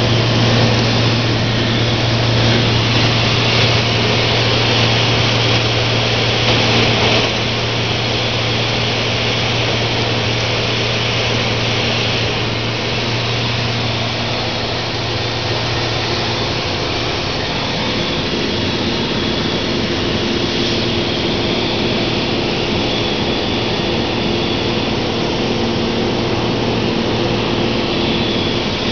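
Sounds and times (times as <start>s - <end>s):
plane engine and propeller drone: 0.0s - 28.9s.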